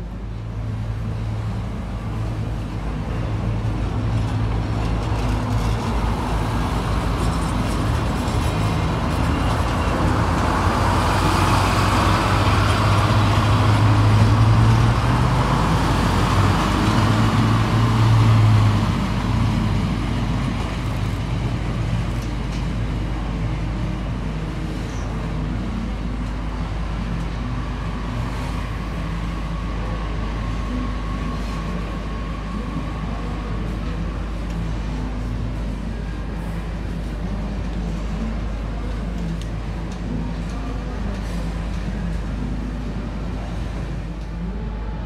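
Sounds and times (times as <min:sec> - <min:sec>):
railcar engine humming: 0:00.0 - 0:45.0
wheel and rail noise: 0:00.0 - 0:45.0.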